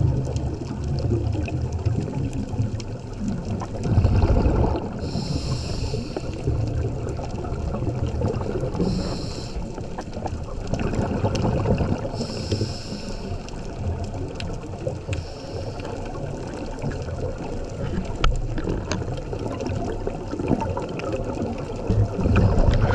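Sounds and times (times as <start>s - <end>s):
underwater rumbling water: 0.0s - 22.9s.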